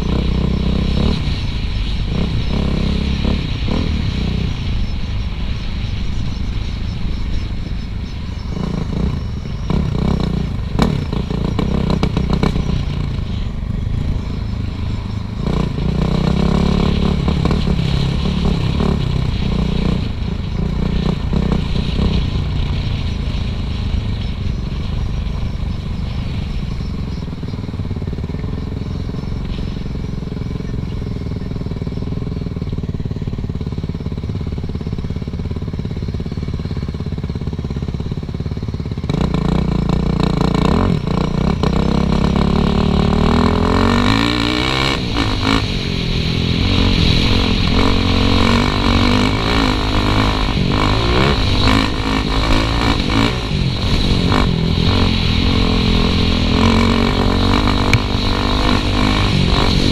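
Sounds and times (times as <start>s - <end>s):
dirt bike engine revving: 0.0s - 4.8s, 8.1s - 59.9s.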